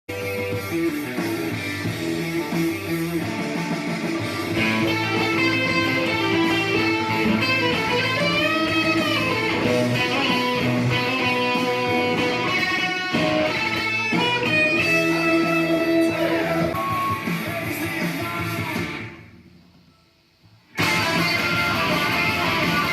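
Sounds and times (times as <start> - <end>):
electric guitar rock solo: 0.1 - 19.2, 20.8 - 22.9
bass guitar: 0.1 - 19.3, 20.8 - 22.9
rhythm guitar: 0.1 - 19.3, 20.6 - 22.9.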